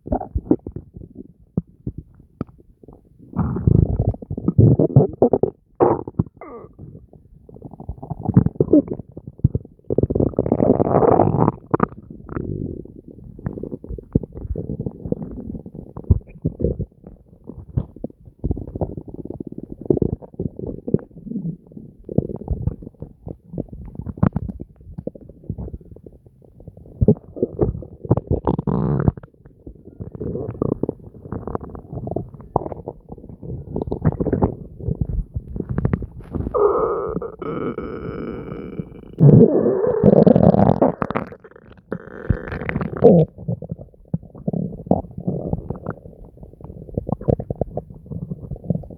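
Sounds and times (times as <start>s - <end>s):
stomach gurgling: 0.0s - 48.9s.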